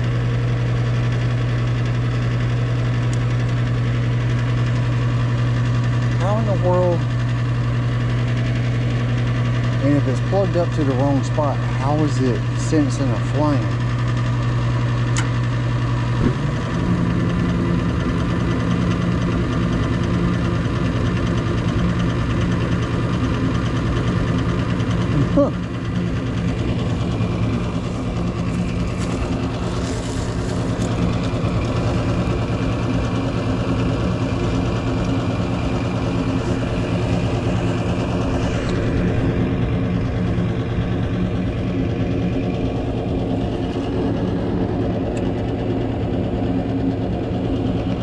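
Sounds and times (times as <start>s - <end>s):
gas furnace humming: 0.0s - 48.0s.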